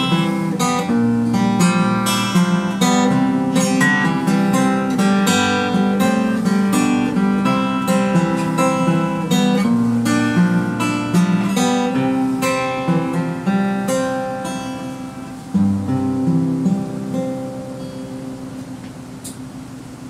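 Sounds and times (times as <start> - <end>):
acoustic guitar playing: 0.0 - 19.7.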